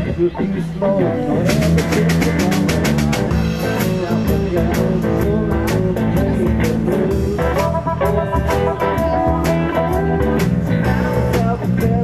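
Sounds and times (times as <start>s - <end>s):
electric guitar lead: 0.0s - 12.0s
drum kit with cymbals: 1.4s - 12.0s.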